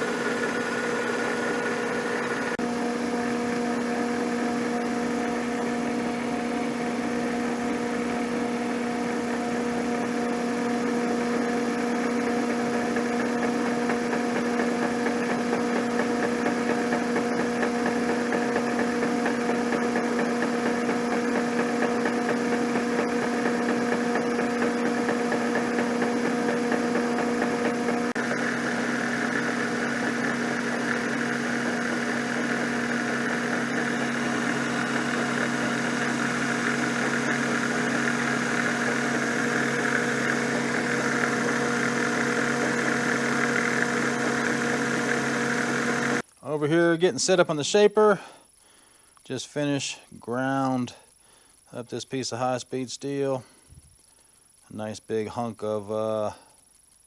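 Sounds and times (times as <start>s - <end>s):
milling machine motor hum: 0.0s - 49.3s.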